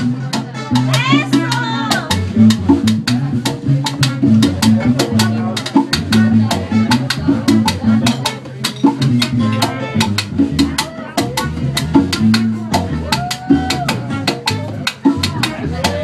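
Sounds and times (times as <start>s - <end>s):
busy drums and percussion: 0.0s - 16.0s
live band playing: 0.0s - 16.0s
upright bass line: 0.0s - 16.0s.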